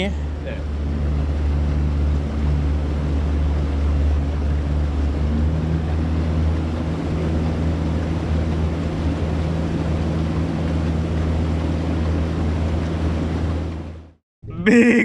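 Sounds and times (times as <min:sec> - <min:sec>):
water wash: 0:00.0 - 0:14.1
outboard engine running: 0:00.0 - 0:15.0.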